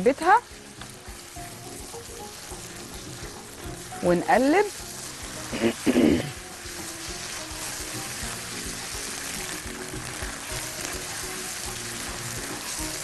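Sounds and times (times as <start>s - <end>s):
sauce sizzling in a pan: 0.0s - 13.0s
soft background music: 0.0s - 13.0s.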